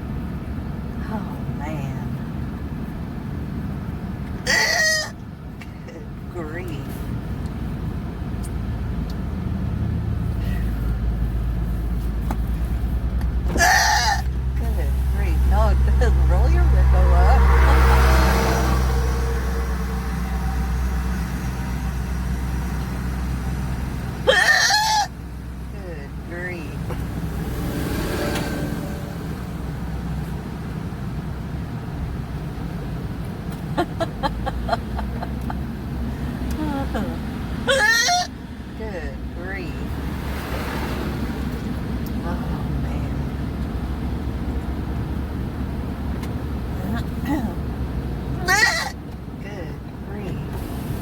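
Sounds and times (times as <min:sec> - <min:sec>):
car engine and road rumble: 0:00.0 - 0:51.0.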